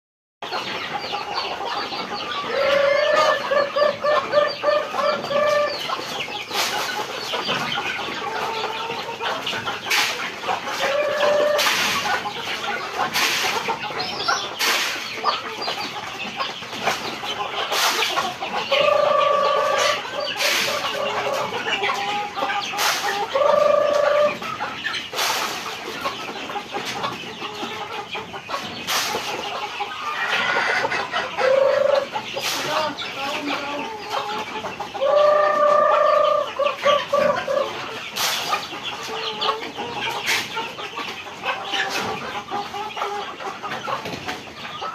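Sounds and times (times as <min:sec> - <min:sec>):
chickens clucking: 0:00.4 - 0:44.9.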